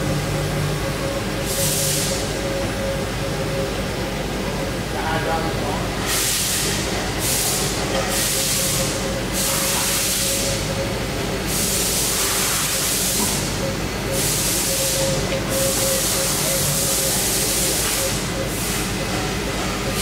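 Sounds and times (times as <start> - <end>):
machine hum with thin tone: 0.0 - 20.0.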